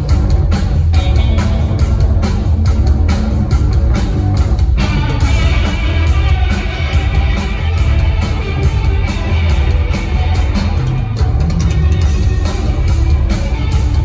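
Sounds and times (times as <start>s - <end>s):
live rock band playing loudly: 0.0s - 14.0s.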